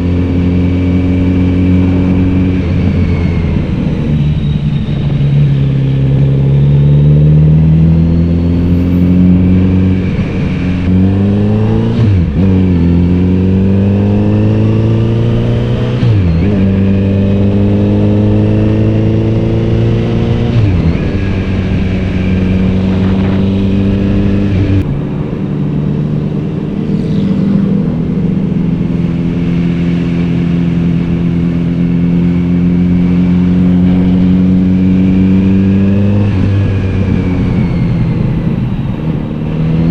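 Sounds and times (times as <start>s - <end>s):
gear changes: 0.0s - 39.9s
motorcycle engine accelerating: 0.0s - 39.9s.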